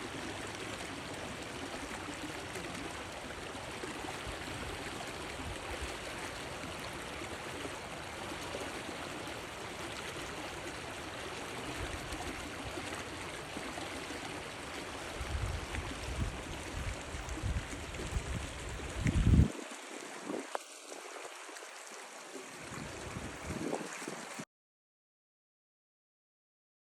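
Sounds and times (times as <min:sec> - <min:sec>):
river flowing: 0:00.0 - 0:24.4.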